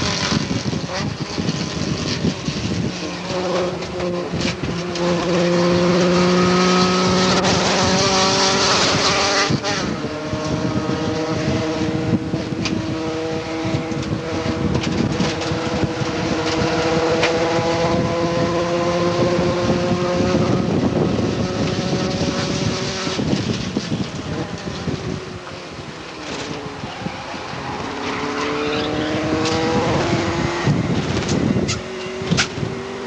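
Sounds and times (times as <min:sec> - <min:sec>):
car engine at high revs: 0:00.0 - 0:33.0.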